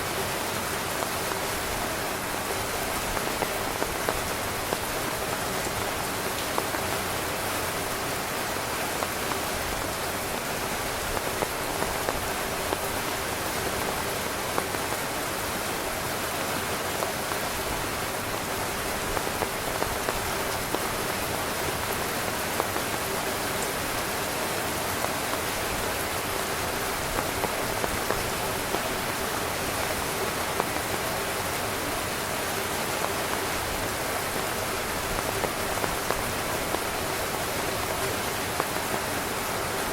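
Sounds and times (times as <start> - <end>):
rain on a tent: 0.0 - 39.9.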